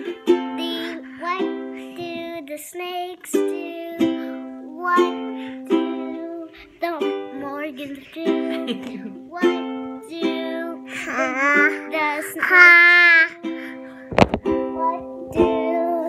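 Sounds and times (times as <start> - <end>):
ukulele strumming chords: 0.0 - 16.0.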